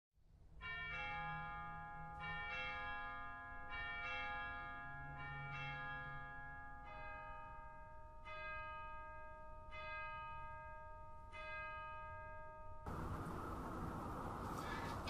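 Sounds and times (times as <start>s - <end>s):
church bells ringing: 0.6s - 15.0s.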